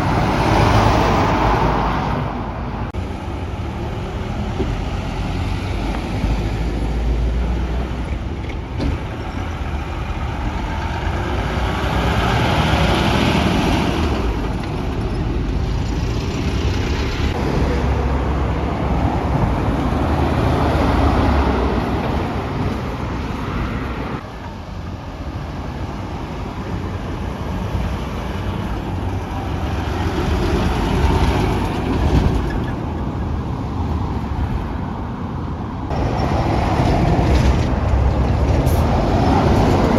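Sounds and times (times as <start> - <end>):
trucks and traffic passing: 0.0 - 39.9.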